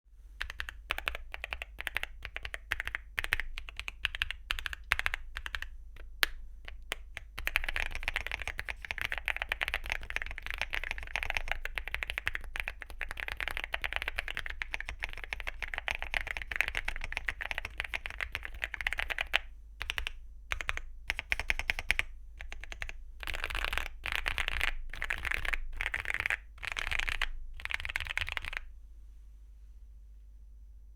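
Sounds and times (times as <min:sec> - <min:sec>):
typing on mechanical keyboard: 0:00.4 - 0:28.7.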